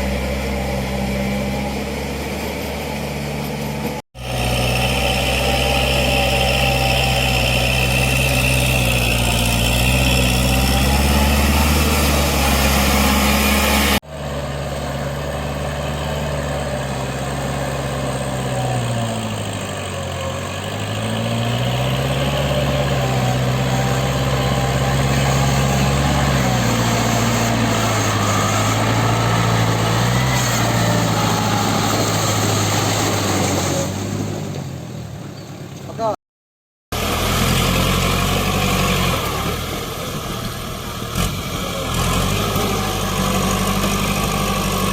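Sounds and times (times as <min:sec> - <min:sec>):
tractor diesel engine under load: 0:00.0 - 0:36.2, 0:36.9 - 0:44.9.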